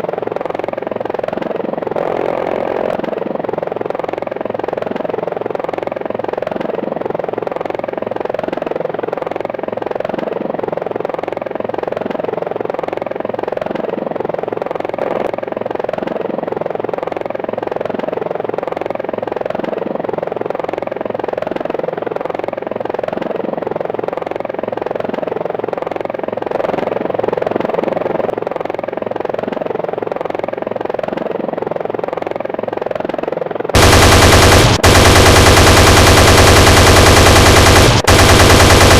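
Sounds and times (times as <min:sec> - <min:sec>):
helicopter rotor beat: 0:00.0 - 0:38.9.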